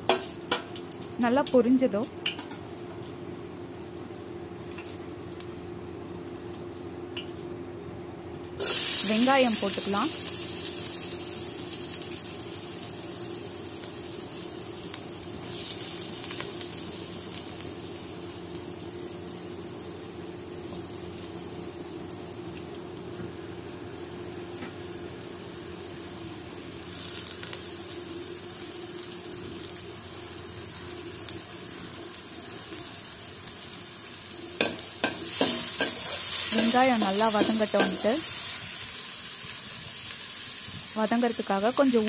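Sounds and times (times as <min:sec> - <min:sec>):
onions sizzling in hot oil: 0:00.0 - 0:07.5, 0:08.3 - 0:42.0.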